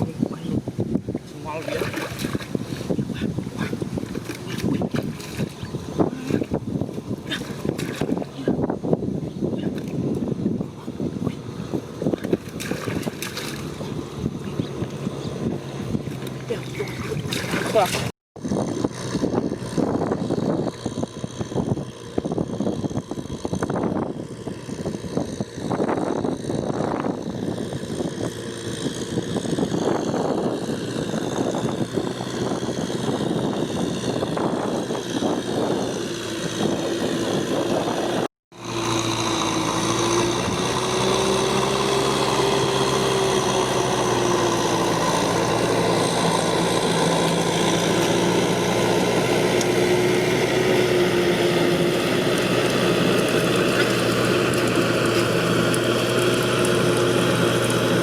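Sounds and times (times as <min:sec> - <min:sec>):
tractor engine running: 0:09.9 - 0:58.0.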